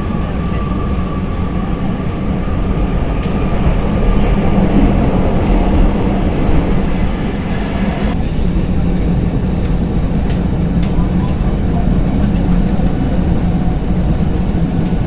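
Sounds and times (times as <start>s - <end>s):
metro train rumbling on rails: 0.0s - 15.0s.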